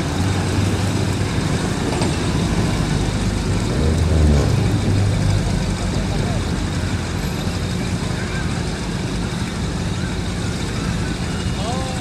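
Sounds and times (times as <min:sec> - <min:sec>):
low engine rumble: 0:00.0 - 0:12.0
street traffic noise: 0:00.0 - 0:12.0.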